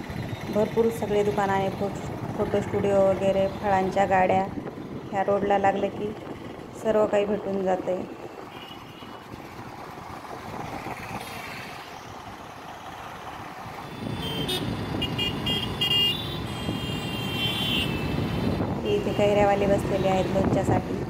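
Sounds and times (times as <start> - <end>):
motorcycles and cars passing: 0.0 - 21.0.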